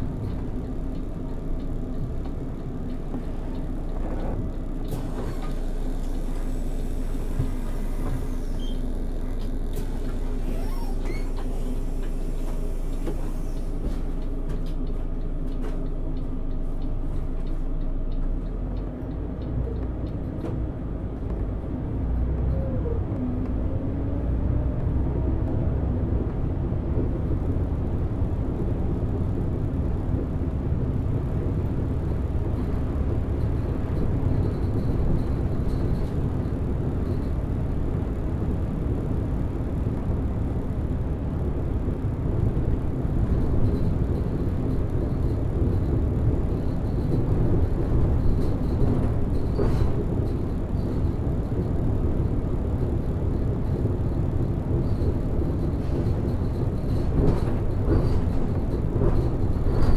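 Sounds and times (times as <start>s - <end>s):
light ticks and rattles: 0.0s - 6.2s, 11.4s - 22.6s, 26.3s - 39.2s, 41.9s - 59.9s
bus engine and road noise: 0.0s - 59.9s.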